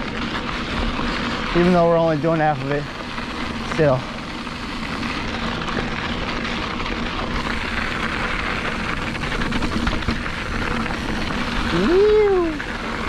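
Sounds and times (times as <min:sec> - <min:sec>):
bike tyres rumbling over dirt: 0:00.0 - 0:13.0.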